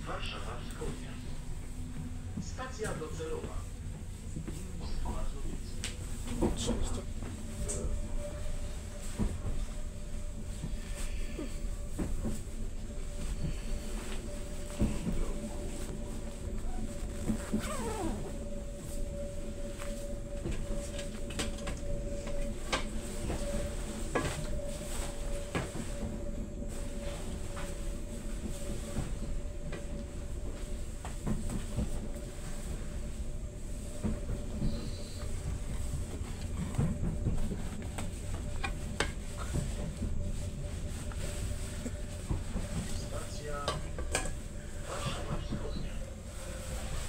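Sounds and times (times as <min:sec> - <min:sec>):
train cabin rumble: 0:00.0 - 0:47.0.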